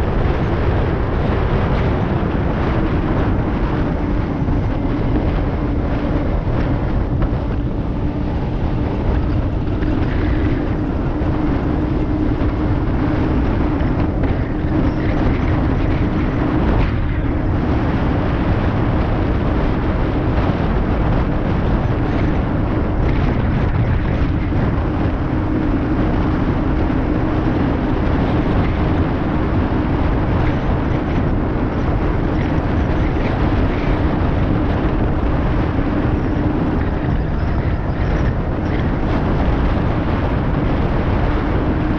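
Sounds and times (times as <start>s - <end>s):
steady hum: 0.0s - 41.9s
wind rushing over microphone: 0.0s - 41.9s.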